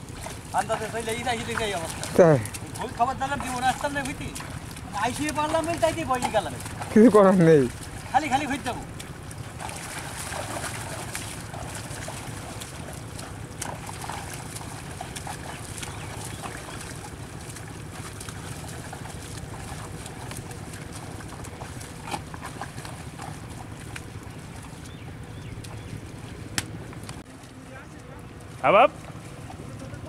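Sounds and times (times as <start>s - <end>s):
mud and water sloshing: 0.0s - 30.0s.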